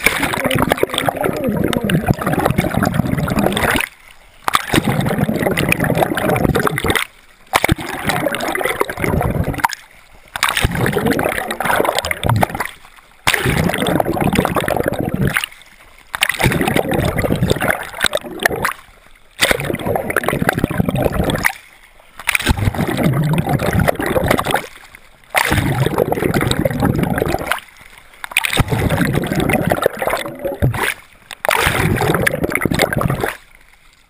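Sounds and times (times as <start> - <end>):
water splashing and rushing: 0.0 - 34.0.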